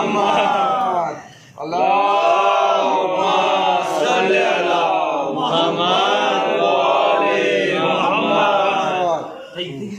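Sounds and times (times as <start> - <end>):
group of voices chanting: 0.0 - 9.5.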